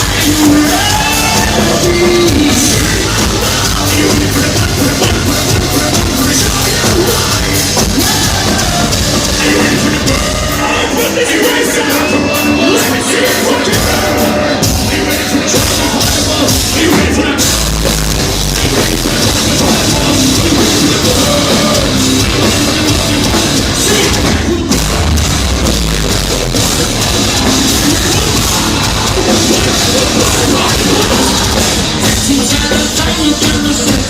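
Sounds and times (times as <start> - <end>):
heavy metal band playing live: 0.0 - 34.0.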